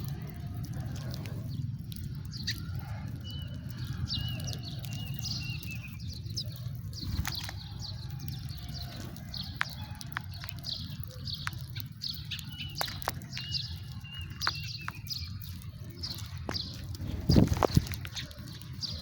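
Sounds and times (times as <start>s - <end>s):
sparrows chirping: 0.0s - 19.0s.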